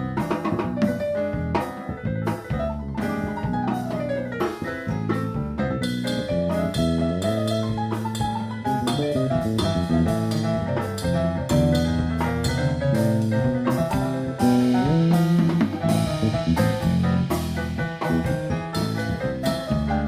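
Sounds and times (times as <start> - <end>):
small jazz band playing: 0.0 - 20.0.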